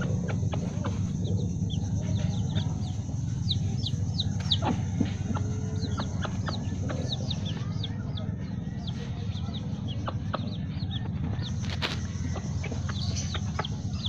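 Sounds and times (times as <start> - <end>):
baby chickens peeping: 0.0 - 14.0
hen clucking: 0.0 - 14.0
steady low hum: 0.0 - 14.0.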